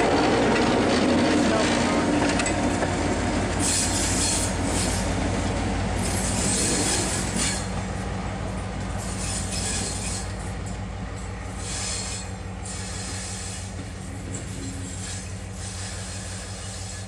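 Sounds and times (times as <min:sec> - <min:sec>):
diesel locomotive engine hum: 0:00.0 - 0:17.0
hissing wheel-on-rail noise: 0:00.0 - 0:17.0.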